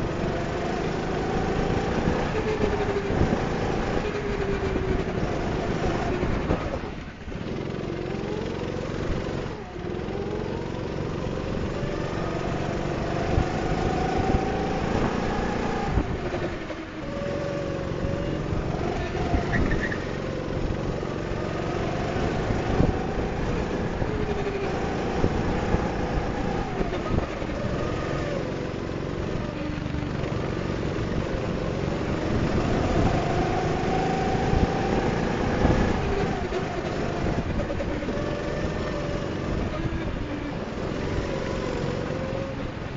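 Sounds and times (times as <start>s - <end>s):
go-kart engine revving: 0.0s - 42.9s.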